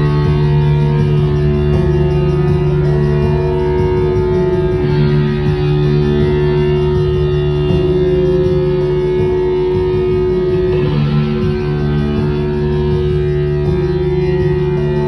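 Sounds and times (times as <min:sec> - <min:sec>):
band with ringing electric guitars: 0:00.0 - 0:15.0.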